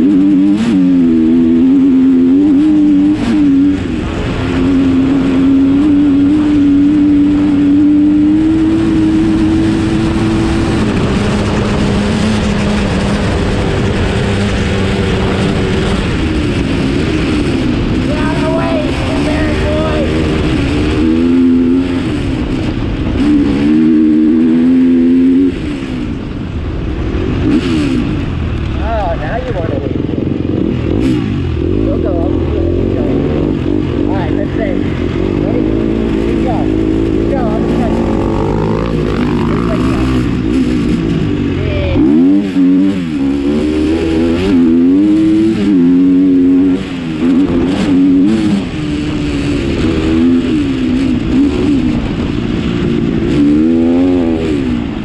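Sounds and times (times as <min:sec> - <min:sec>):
vehicle engine running: 0:00.0 - 0:55.0
low rumble: 0:00.7 - 0:55.0.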